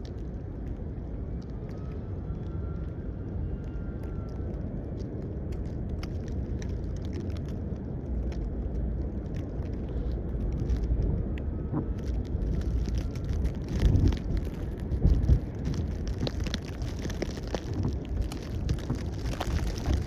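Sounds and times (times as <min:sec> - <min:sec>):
snowstorm low rumble: 0:00.0 - 0:20.0.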